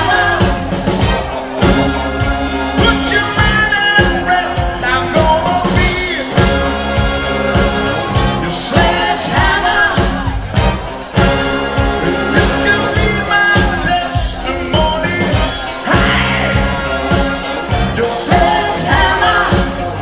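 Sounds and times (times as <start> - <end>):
person singing: 0.0 - 10.5, 11.3 - 20.0
pop-rock band playing: 0.0 - 20.0
steady drum beat: 0.0 - 20.0.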